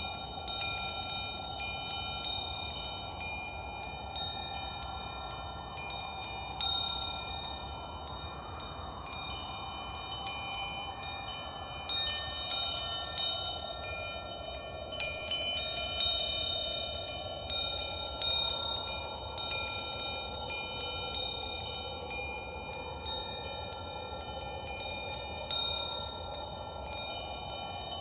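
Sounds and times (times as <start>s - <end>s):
wind chimes ringing: 0.0s - 28.0s.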